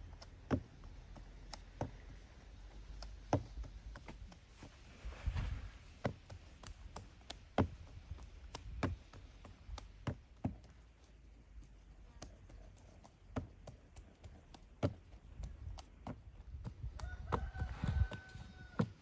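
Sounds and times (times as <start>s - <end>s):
hands patting dough: 0.0s - 19.0s.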